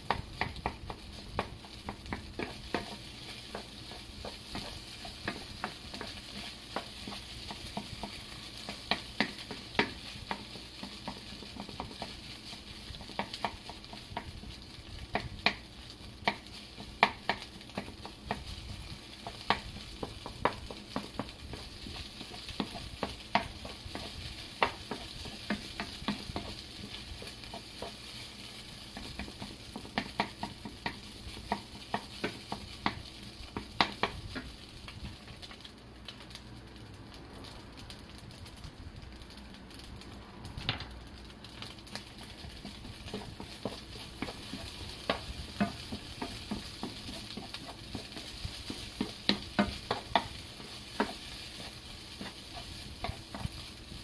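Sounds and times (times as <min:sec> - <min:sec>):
faint sizzle: 0:00.0 - 0:54.0
spatula scraping a frying pan: 0:00.4 - 0:15.6, 0:16.2 - 0:34.5, 0:41.9 - 0:54.0.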